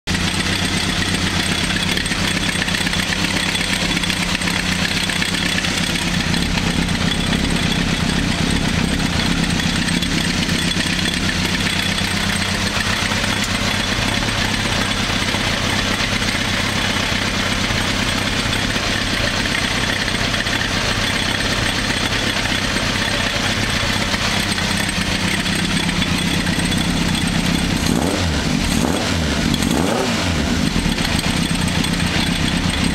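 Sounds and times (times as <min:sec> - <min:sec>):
motorcycle engine idling: 0:00.1 - 0:32.9.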